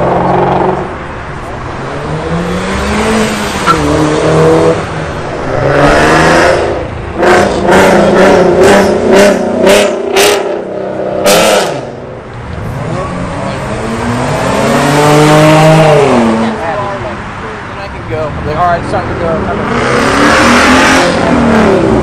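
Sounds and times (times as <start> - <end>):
car engine revving: 0.0 - 17.6, 18.2 - 22.0.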